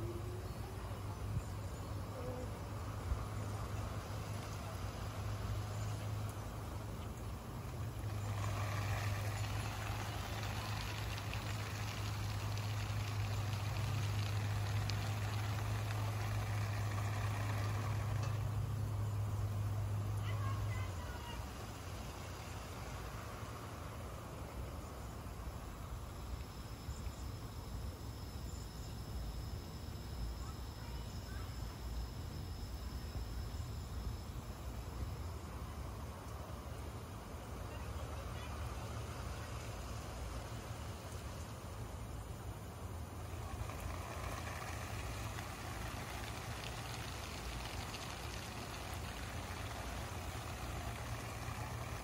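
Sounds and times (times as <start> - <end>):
sprinkler water spraying hiss: 0.0 - 52.0
thin steady high tone: 0.0 - 52.0.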